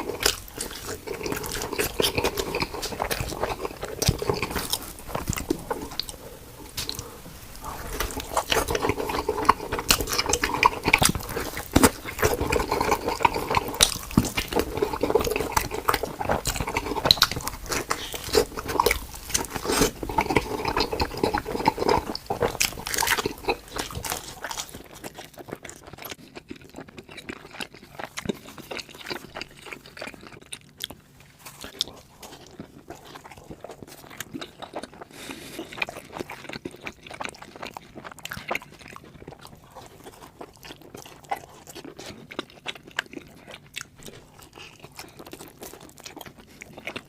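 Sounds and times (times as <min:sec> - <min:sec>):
chewing and crunching pizza: 0:00.0 - 0:47.0.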